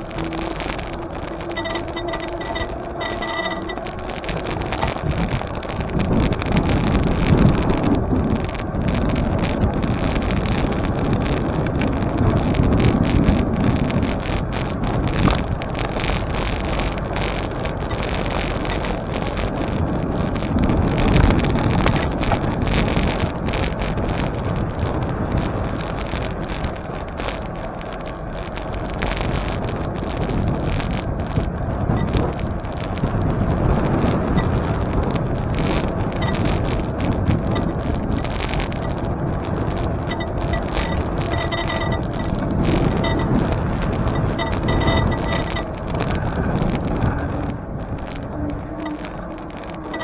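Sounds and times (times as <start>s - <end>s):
wind rushing over microphone: 0.0s - 50.0s.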